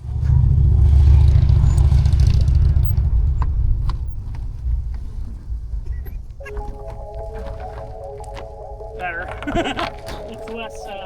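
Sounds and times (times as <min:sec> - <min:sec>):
motorcycle engine starting up: 0:00.0 - 0:10.3.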